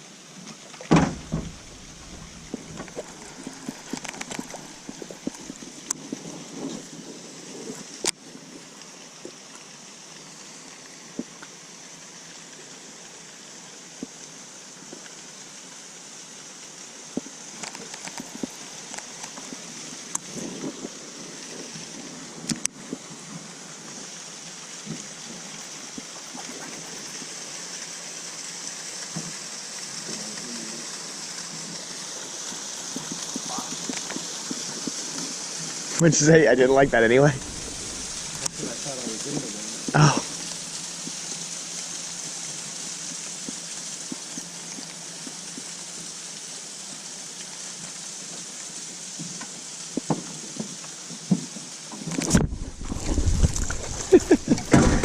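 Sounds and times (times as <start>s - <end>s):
river water rushing over rapids: 0.0s - 55.0s.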